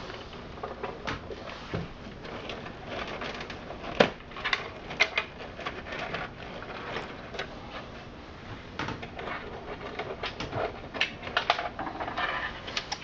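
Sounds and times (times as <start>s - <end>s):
plastic parts and cables rustling: 0.0s - 13.0s.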